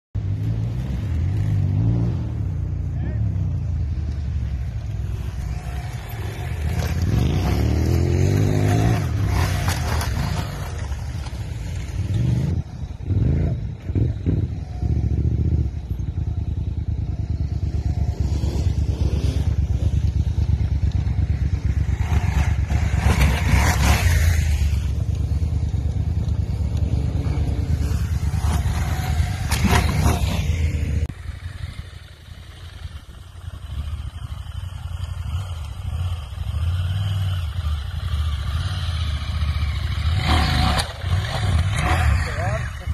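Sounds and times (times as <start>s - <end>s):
motorcycle engine revving: 0.2s - 42.9s.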